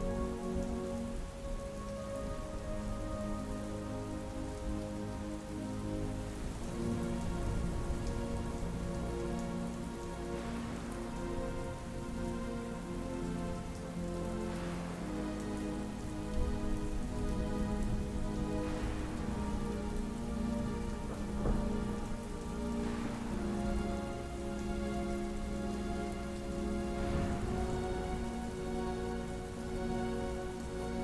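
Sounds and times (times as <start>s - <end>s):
ambient music with held notes: 0.0s - 31.0s
soft rain: 0.0s - 31.0s.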